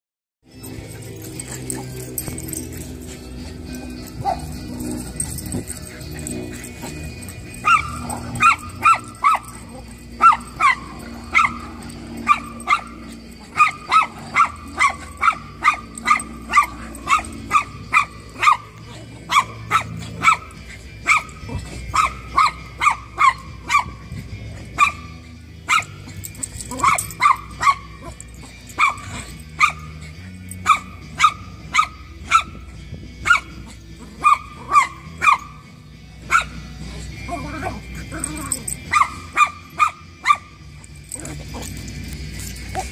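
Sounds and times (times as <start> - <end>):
dog barking: 3.5 - 41.9.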